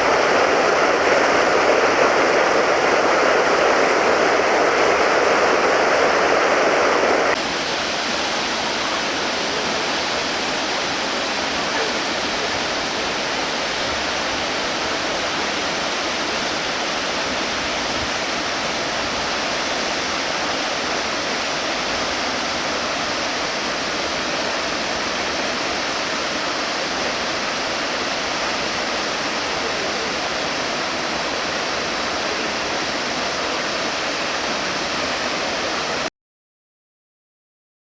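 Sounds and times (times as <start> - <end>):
waterfall roaring: 0.0 - 36.1.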